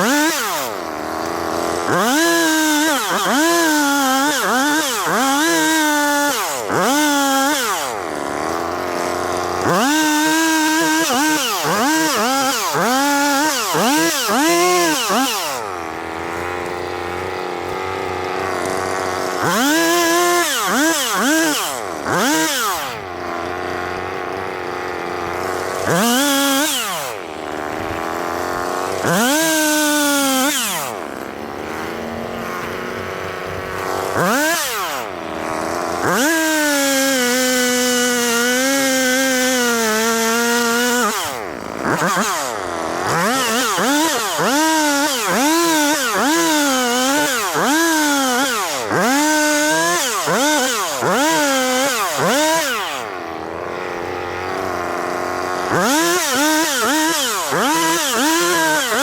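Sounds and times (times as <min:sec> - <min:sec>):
chainsaw idling: 0:00.0 - 0:59.0
chainsaw revving: 0:00.0 - 0:59.0.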